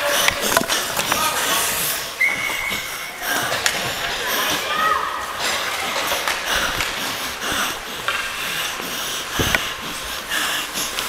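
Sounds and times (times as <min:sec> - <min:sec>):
skate blades scraping ice: 0:00.0 - 0:11.0.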